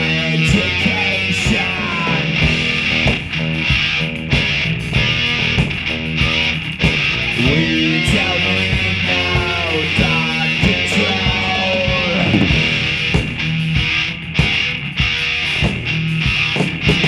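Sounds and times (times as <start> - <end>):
lead electric guitar bending notes: 0.0 - 17.0
steady bass line: 0.0 - 17.0
drum hits: 2.4 - 17.0.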